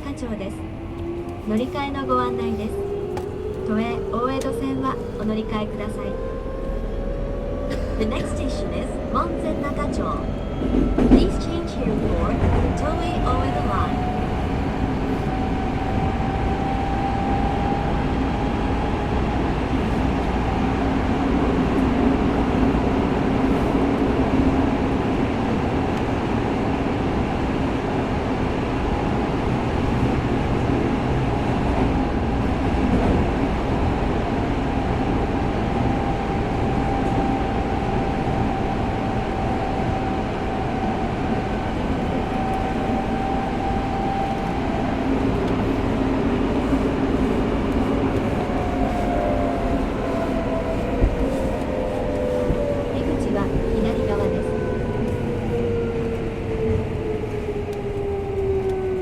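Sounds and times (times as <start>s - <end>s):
subway wheels and motors rumbling: 0.0s - 59.0s.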